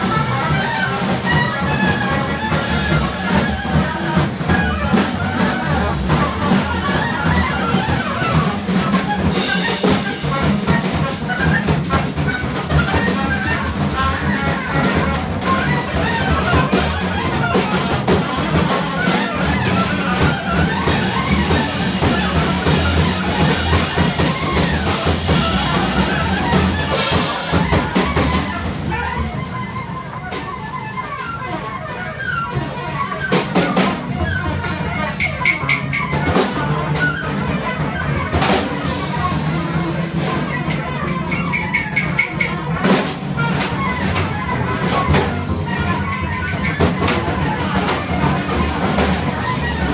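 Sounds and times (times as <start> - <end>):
double bass: 0.0 - 30.4, 34.0 - 49.9
drum kit with cymbals: 0.0 - 49.9
horn playing a wandering line: 0.0 - 49.9.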